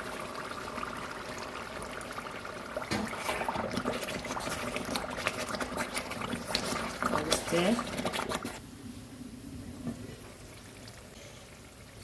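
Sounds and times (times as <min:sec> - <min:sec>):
stew bubbling and sizzling: 0:00.0 - 0:12.0.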